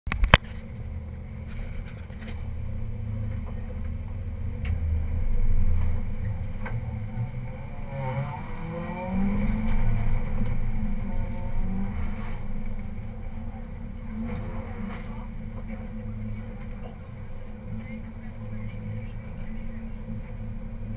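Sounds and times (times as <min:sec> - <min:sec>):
car engine idling and revving: 0:00.1 - 0:20.9.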